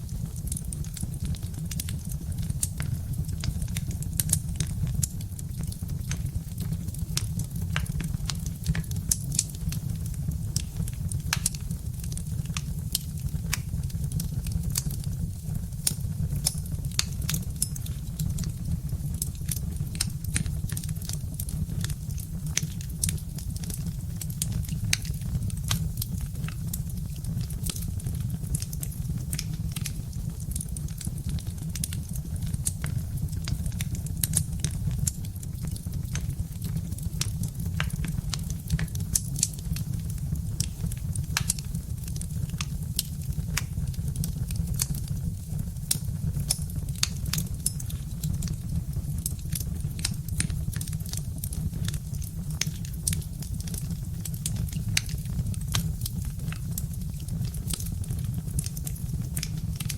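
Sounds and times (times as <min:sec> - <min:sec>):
low rumble of burning fire: 0:00.0 - 0:59.9
wood fire crackling and popping: 0:00.0 - 0:59.9.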